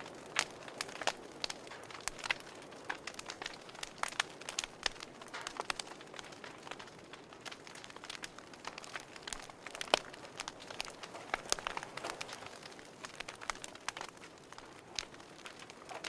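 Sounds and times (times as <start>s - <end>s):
fire pops and snaps: 0.0s - 16.0s
wood fire crackling: 0.0s - 16.0s.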